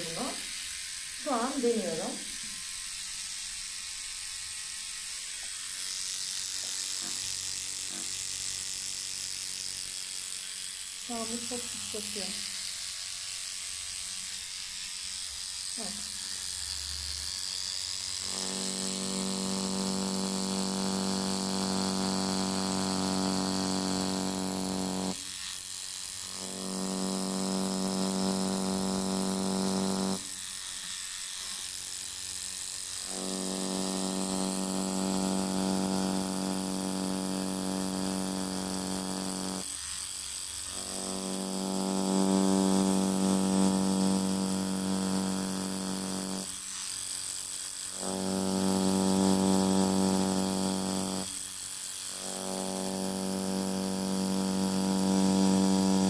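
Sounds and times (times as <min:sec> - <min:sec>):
tattoo machine buzzing: 0:00.0 - 0:56.0.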